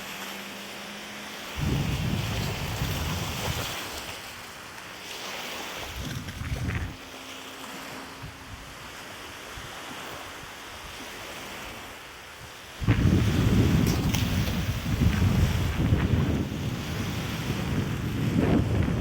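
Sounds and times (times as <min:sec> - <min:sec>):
lake waves: 0:00.0 - 0:19.0
wind buffeting microphone: 0:00.8 - 0:04.6, 0:05.7 - 0:07.2, 0:07.9 - 0:19.0.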